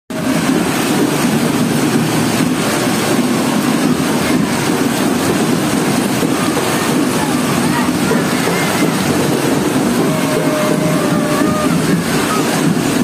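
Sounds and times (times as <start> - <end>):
heavy rain on a street: 0.1 - 13.0.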